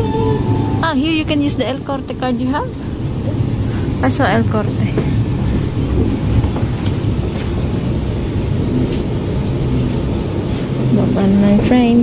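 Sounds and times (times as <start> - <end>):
tram rumbling on track: 0.0 - 12.0.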